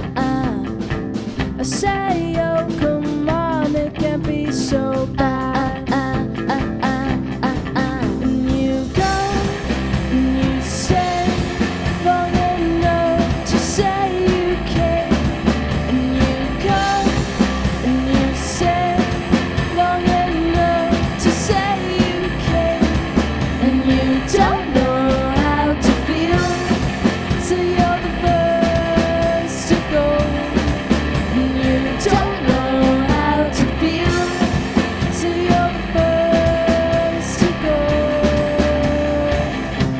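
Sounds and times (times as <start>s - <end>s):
person singing: 0.0s - 0.8s, 1.6s - 39.8s
rock band playing live: 0.0s - 39.9s.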